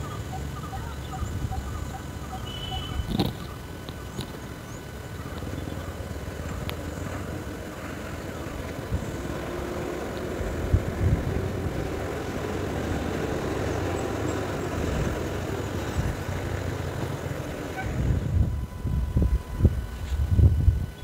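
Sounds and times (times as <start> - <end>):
distant bus engine drone: 0.0 - 21.0.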